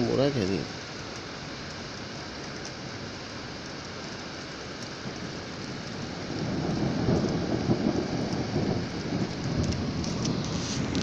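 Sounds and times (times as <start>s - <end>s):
steady rain on a street: 0.0s - 11.0s.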